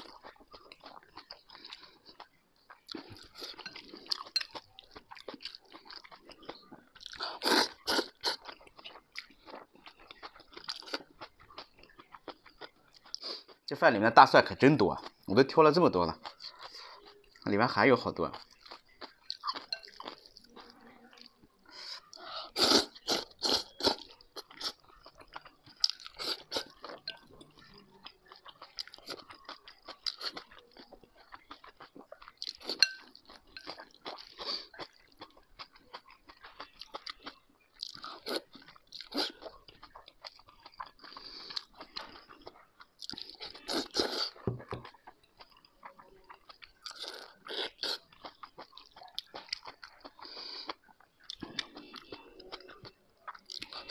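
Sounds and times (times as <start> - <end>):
person chewing: 0.0 - 13.7, 16.1 - 17.5, 18.2 - 53.9.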